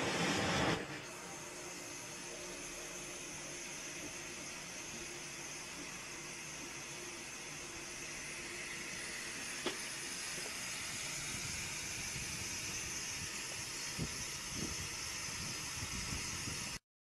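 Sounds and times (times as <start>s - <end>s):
steam hissing: 0.0s - 16.8s.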